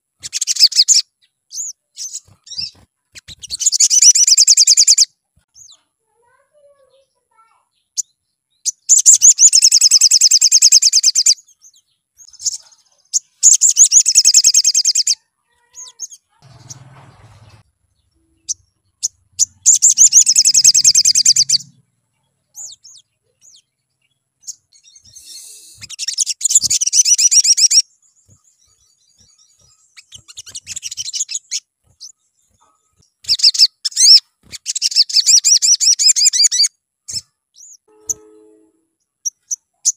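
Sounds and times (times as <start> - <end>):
bird chips: 0.2 - 5.8, 8.0 - 21.8, 24.4 - 38.4
bird trilling song: 0.2 - 39.9.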